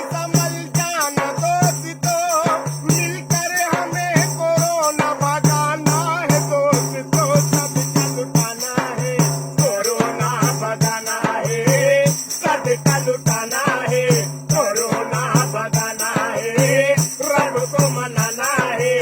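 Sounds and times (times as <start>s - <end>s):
rattling percussion beat: 0.0s - 19.0s.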